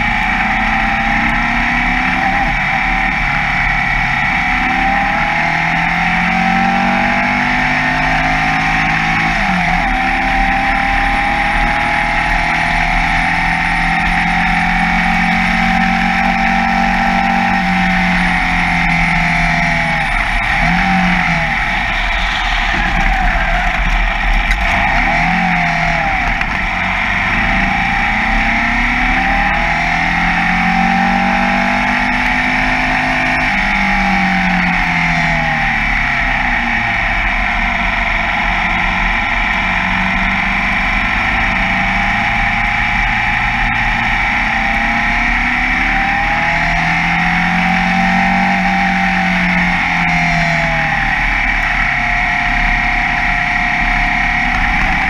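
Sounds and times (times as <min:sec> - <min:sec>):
racing car engine: 0:00.0 - 0:55.0.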